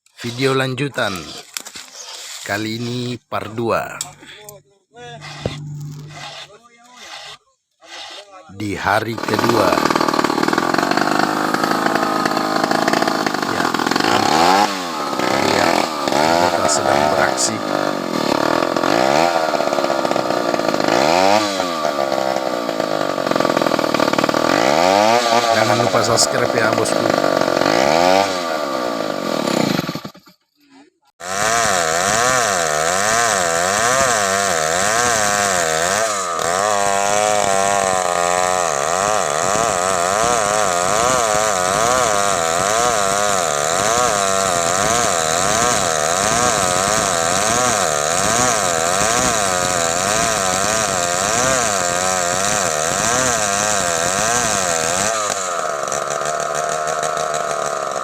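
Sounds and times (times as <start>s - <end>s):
chainsaw cutting wood: 0.0s - 3.0s, 5.0s - 30.6s, 31.2s - 58.0s.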